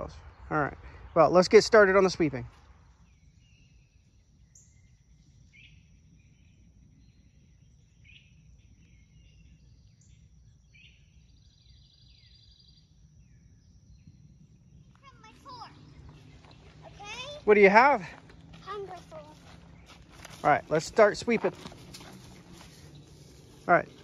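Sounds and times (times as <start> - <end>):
high insect hum: 0.0 - 24.0
low background rumble: 0.0 - 24.0.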